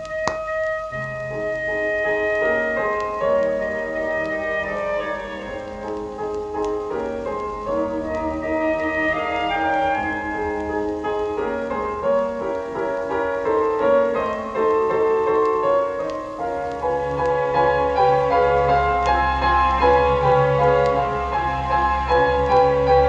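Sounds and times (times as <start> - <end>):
piano music through a loudspeaker: 0.0 - 23.0.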